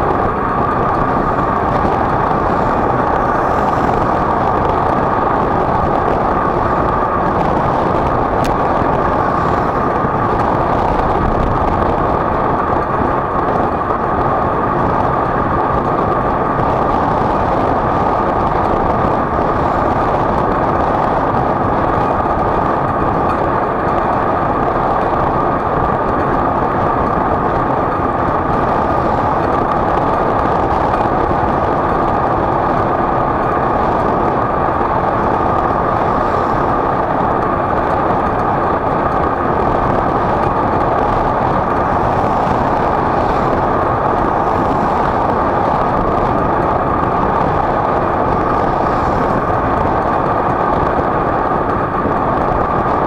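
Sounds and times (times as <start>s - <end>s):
vehicle running noise: 0.0s - 53.0s.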